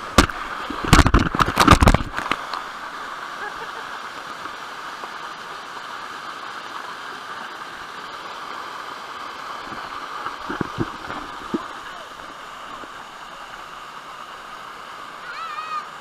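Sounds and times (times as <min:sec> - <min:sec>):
waterfall pouring onto rocks: 0:00.0 - 0:16.0.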